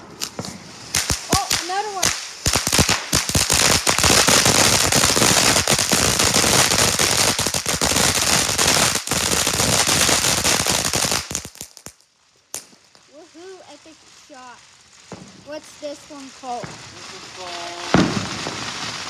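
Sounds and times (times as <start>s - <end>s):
firework hissing and crackling: 0.0s - 19.0s.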